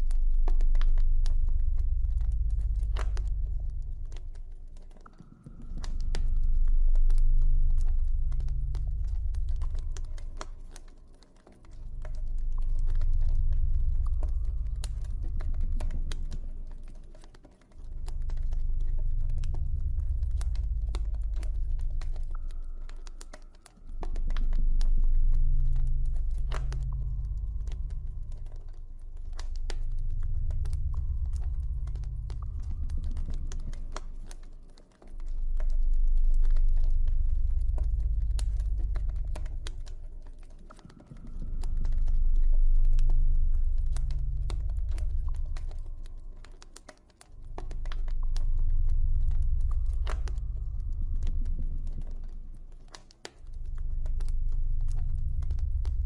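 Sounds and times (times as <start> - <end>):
deep ambient drone: 0.0 - 56.0
campfire crackling and popping: 0.1 - 56.0.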